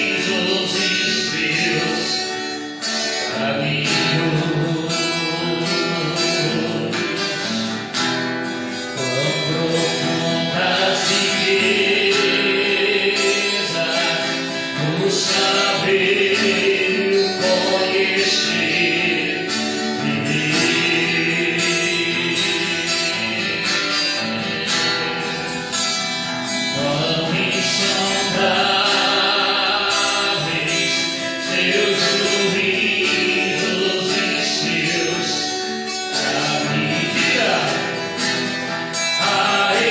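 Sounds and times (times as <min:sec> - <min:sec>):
person singing gospel: 0:00.0 - 0:39.9
strummed acoustic guitar: 0:00.0 - 0:39.9.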